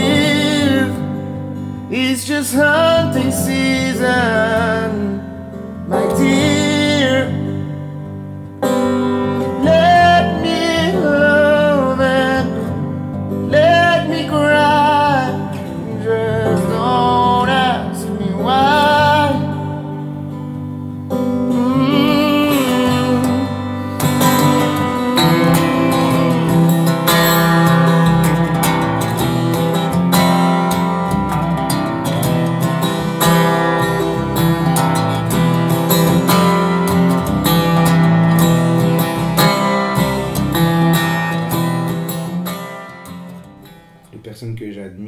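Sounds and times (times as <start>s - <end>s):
electric guitar playing slow song: 0.0s - 44.2s.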